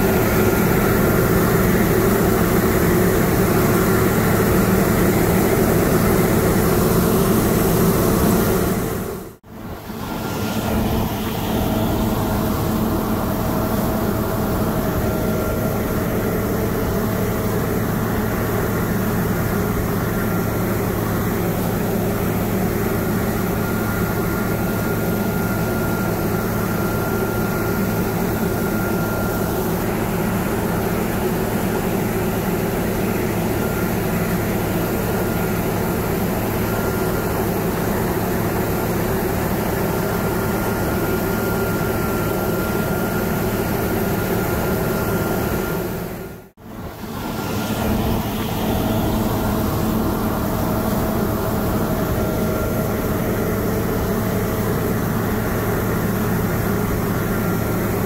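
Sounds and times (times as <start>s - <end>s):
combine harvester engine hum: 0.0s - 58.0s.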